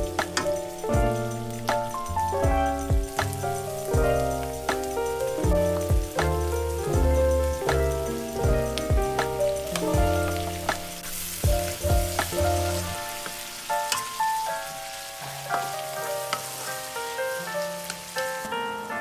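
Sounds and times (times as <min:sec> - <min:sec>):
instrumental background music: 0:00.0 - 0:19.0
meat and onions sizzling in a pan: 0:00.0 - 0:19.0.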